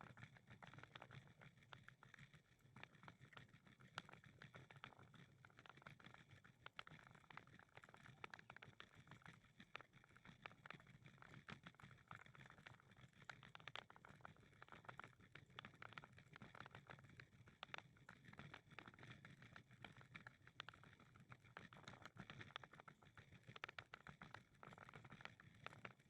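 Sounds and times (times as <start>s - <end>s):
small irregular clicks: 0.0s - 26.0s.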